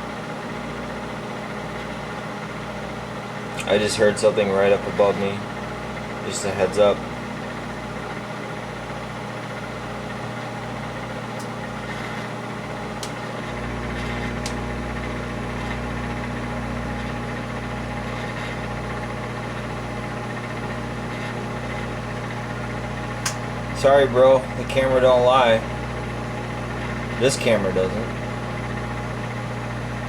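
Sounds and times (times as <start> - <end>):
electrical hum of appliance: 0.0 - 30.0.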